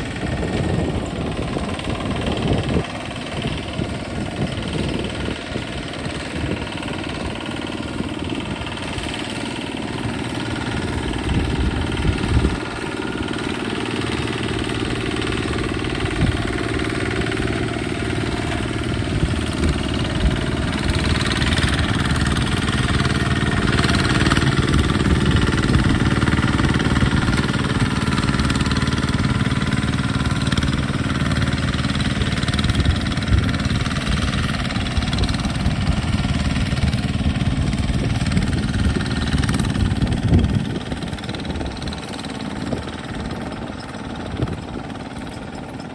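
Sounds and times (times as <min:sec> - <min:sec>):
single-cylinder diesel engine running: 0:00.0 - 0:45.9.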